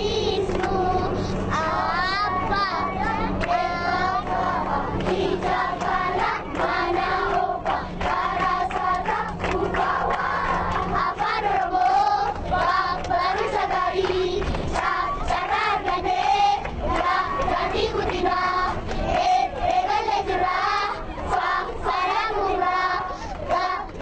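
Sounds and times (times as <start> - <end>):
bus rumble: 0.0 - 24.0
children singing in unison: 0.0 - 24.0.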